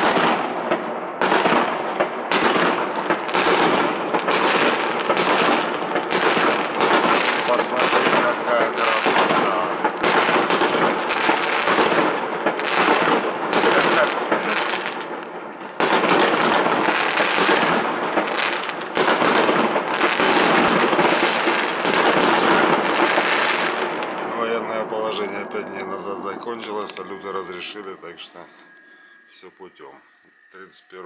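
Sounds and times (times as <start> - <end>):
fireworks bangs: 0.0 - 31.0.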